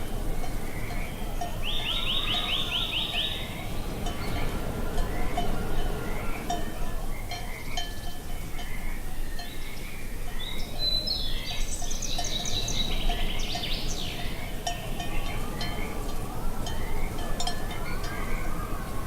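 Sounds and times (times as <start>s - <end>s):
bird singing high trills: 0.0s - 19.0s
cowbells clanking: 0.0s - 19.0s
low wind rumble: 0.0s - 19.0s.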